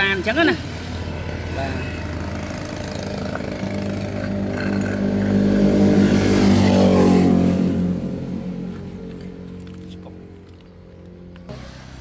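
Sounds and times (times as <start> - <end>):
vehicle engine passing by: 0.4 - 12.0.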